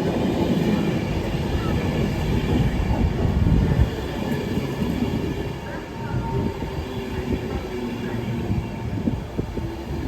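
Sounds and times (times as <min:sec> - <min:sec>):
train rumbling on rails: 0:00.0 - 0:10.0.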